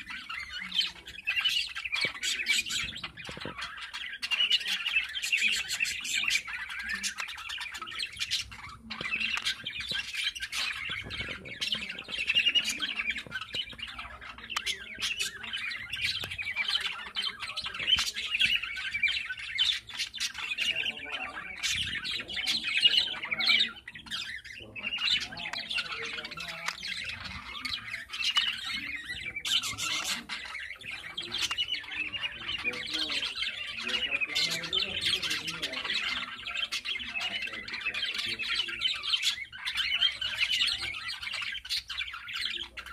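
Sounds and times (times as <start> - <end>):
budgerigars chattering and warbling: 0.0 - 42.9
sharp chirps and squawks: 0.0 - 42.9.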